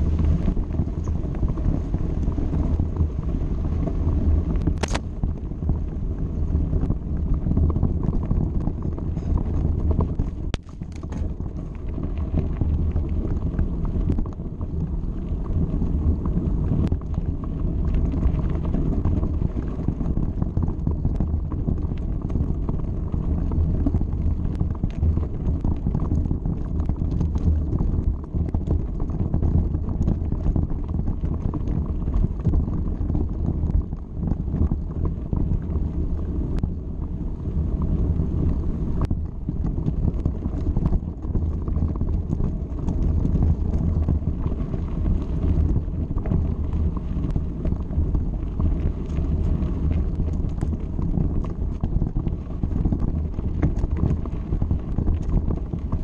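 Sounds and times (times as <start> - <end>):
bike tyres on gravel: 0.0 - 56.0
wind buffeting microphone: 0.0 - 56.0.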